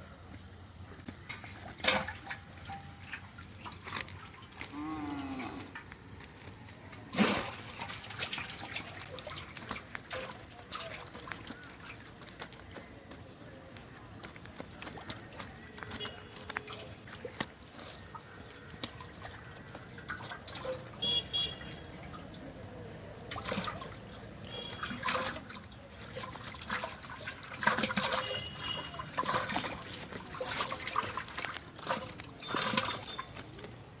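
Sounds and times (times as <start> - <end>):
water splashing and sloshing: 0.7 - 34.0.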